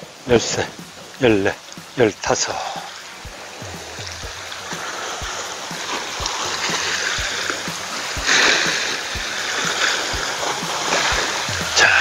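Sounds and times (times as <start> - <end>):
water splash: 0.0 - 12.0
small waves washing on rocks: 0.1 - 12.0.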